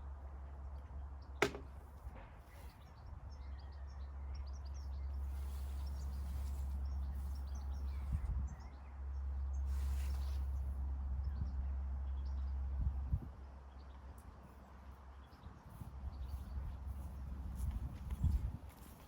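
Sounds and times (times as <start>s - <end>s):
wind rumble on microphone: 1.9s - 19.0s.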